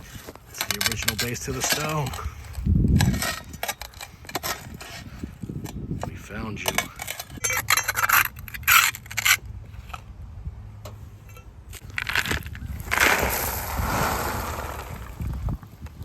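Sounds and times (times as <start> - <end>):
shovel scraping through gravelly dirt: 0.0 - 10.1, 11.8 - 15.6.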